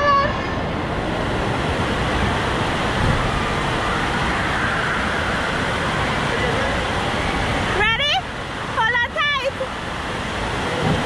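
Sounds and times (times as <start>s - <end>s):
water rushing down a slide: 0.0s - 8.8s, 9.4s - 11.0s.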